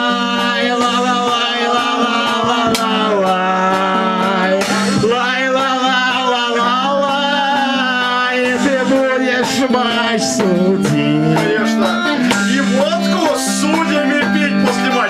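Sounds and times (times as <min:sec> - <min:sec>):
men singing wordless refrain: 0:00.0 - 0:15.0
strummed acoustic guitar: 0:00.0 - 0:15.0.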